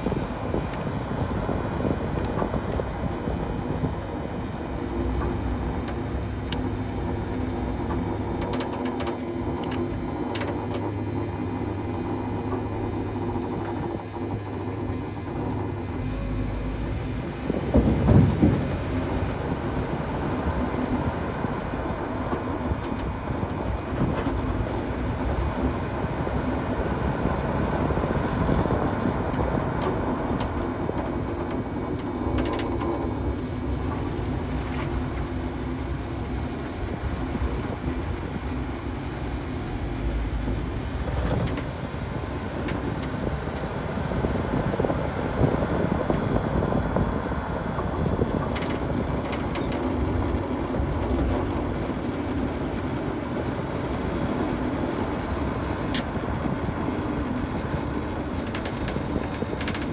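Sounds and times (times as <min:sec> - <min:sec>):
pickup truck engine rumble: 0:00.0 - 0:59.9
wind on microphone: 0:00.0 - 0:59.9.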